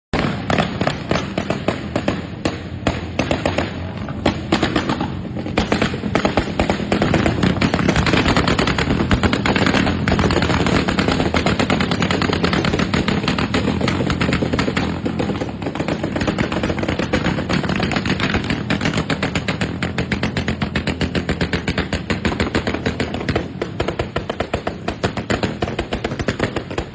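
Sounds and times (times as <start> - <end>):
motorcycle engines running: 0.2 - 26.9
motorcycle exhaust pops and crackles: 0.2 - 26.9.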